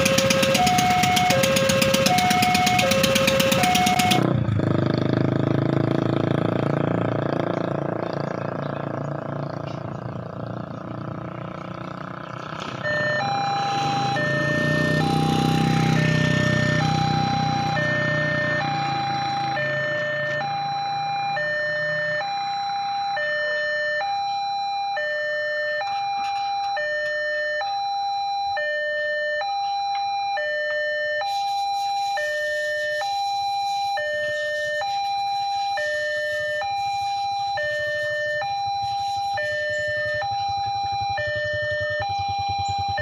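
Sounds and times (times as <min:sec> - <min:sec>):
level crossing warning alarm: 0:00.0 - 0:04.6, 0:12.7 - 0:43.0.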